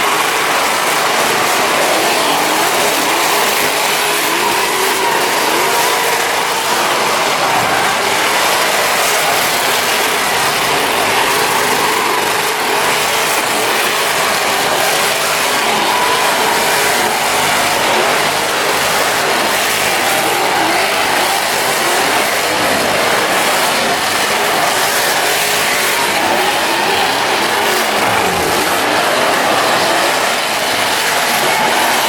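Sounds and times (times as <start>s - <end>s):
loud vehicle engine noise: 0.0s - 32.0s.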